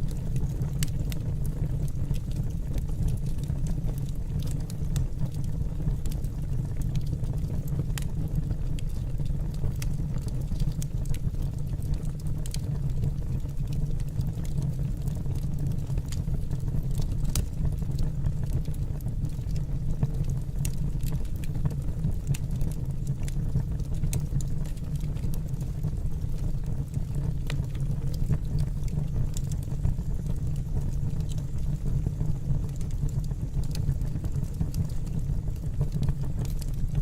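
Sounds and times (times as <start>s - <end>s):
fire crackles and pops: 0.0s - 37.0s
fire rumbling in fireplace: 0.0s - 37.0s.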